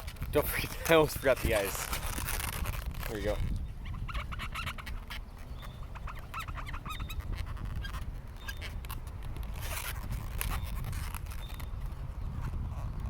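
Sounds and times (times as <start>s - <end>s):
balloons squeaking: 0.3s - 13.0s.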